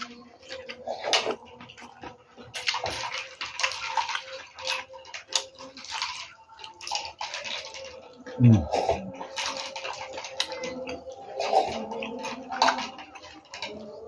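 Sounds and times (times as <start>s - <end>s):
wet chewing and lip-smacking: 0.0s - 14.0s.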